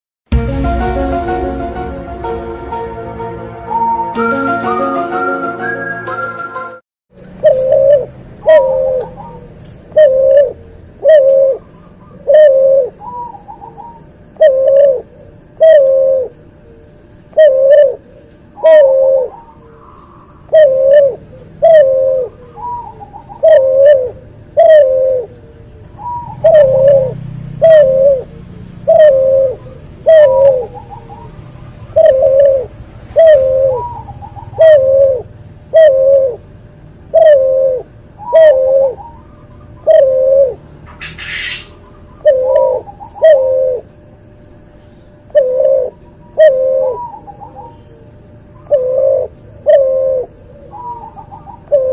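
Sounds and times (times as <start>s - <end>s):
dove cooing: 7.4s - 43.9s, 45.3s - 51.9s.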